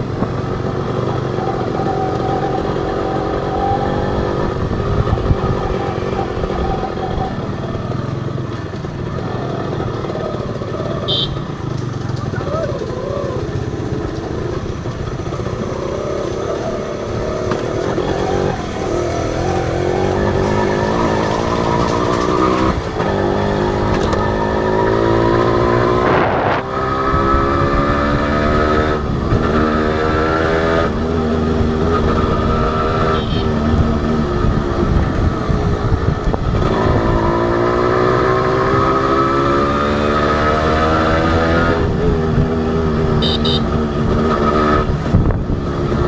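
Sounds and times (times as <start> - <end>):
motorcycle engine shifting gears: 0.0 - 46.0.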